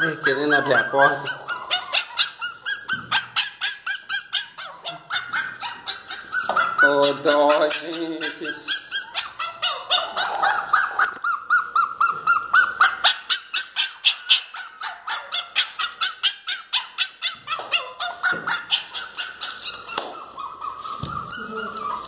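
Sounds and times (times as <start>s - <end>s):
dog yelping whines: 0.0s - 22.0s.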